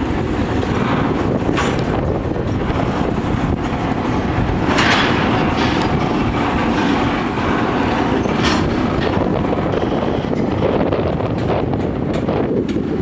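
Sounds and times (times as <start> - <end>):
train rumbling: 0.0 - 13.0
wheels clattering over rails: 0.0 - 13.0.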